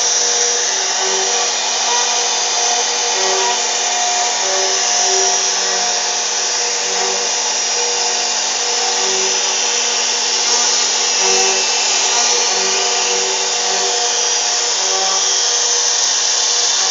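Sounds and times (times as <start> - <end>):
router spindle whining: 0.0 - 16.9
wood being cut: 0.0 - 16.9.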